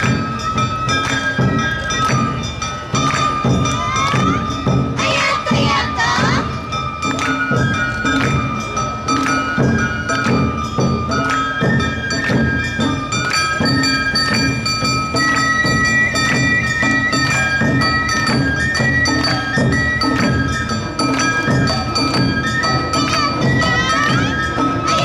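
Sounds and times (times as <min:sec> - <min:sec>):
bamboo flutes: 0:00.0 - 0:25.0
drums beating: 0:00.0 - 0:25.0.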